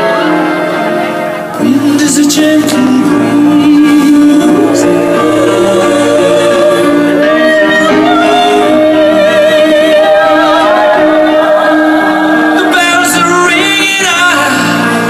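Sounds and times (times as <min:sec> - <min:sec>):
loud music with singing: 0:00.0 - 0:15.0.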